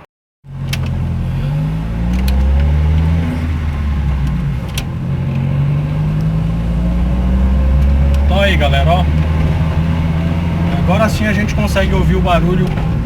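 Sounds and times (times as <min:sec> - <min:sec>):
car engine running: 0:00.5 - 0:13.0.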